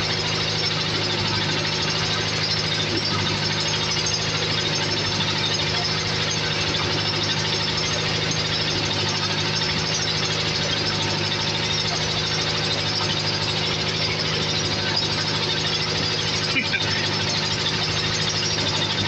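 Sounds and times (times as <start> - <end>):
diesel engine rattly drone: 0.0 - 19.0.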